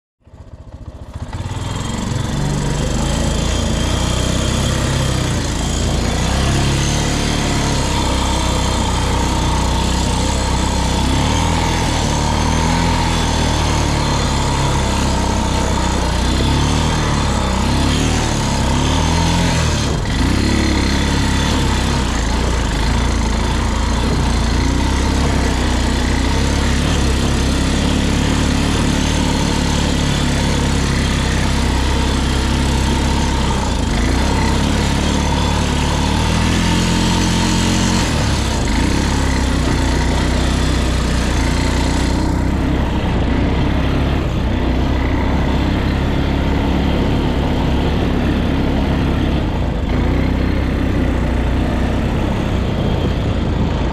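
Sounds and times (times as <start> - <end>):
engine running: 0.2 - 53.9.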